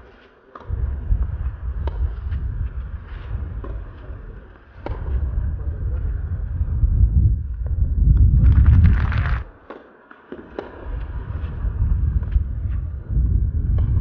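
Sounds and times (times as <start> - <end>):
heavy low rumble: 0.7 - 9.5, 11.0 - 14.0.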